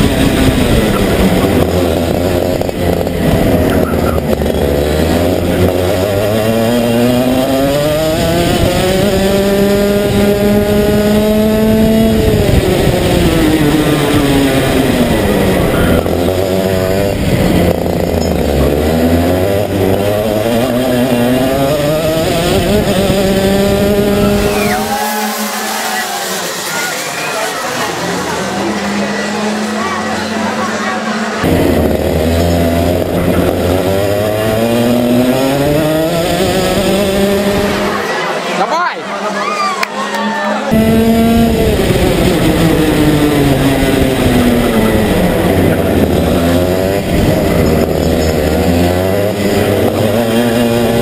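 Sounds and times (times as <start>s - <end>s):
kart engine revving: 0.0s - 51.0s.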